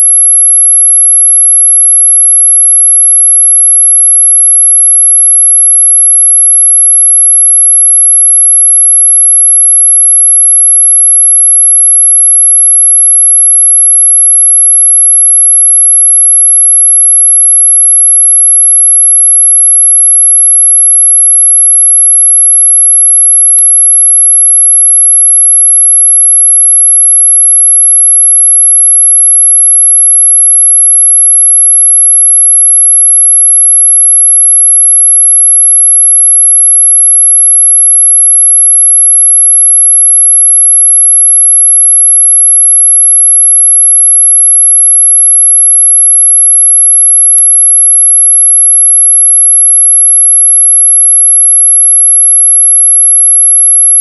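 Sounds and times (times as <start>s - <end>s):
high-pitched sine tone: 0.0s - 54.0s.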